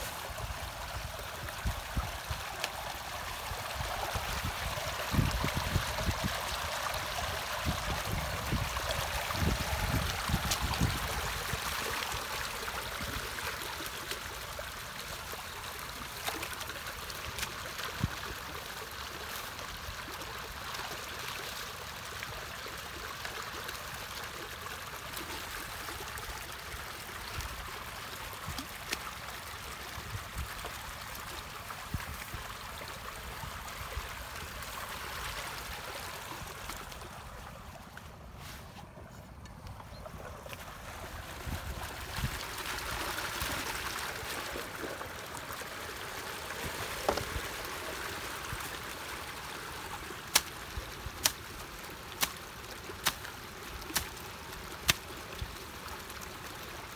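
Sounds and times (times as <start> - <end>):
muddy water flowing: 0.0 - 56.9.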